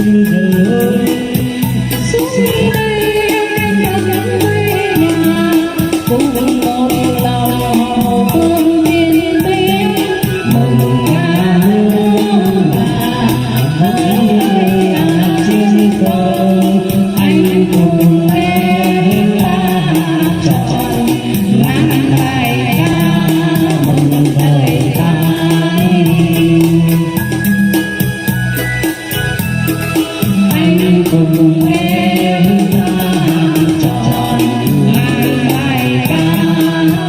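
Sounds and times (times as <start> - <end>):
person singing ornamented melody: 0.0 - 27.5, 30.4 - 37.0
instrumental accompaniment: 0.0 - 37.0.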